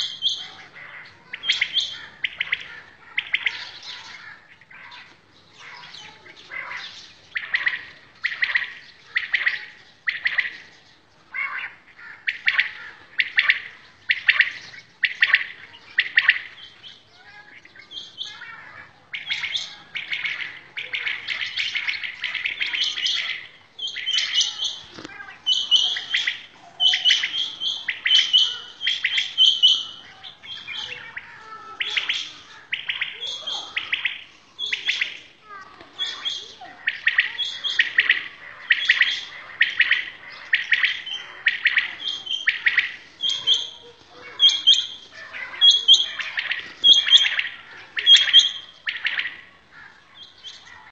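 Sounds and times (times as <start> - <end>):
quails chirping: 0.0 - 50.9.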